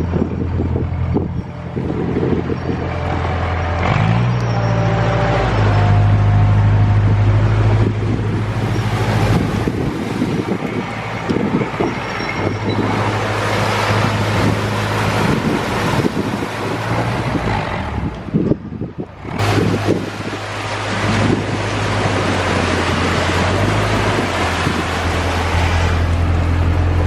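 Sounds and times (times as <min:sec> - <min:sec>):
diesel engine revving: 0:00.0 - 0:27.0.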